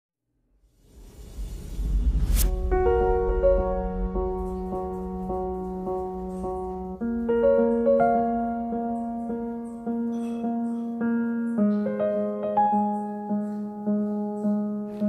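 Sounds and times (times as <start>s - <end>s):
gentle piano chords: 2.5s - 15.0s.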